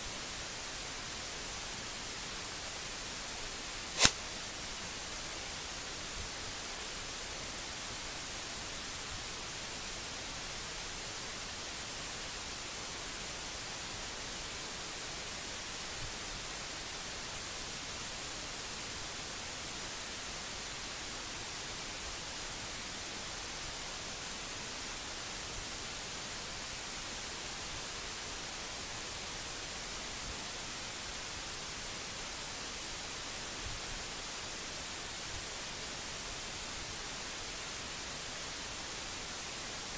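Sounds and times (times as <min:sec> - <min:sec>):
microphone hiss: 0:00.0 - 0:39.9.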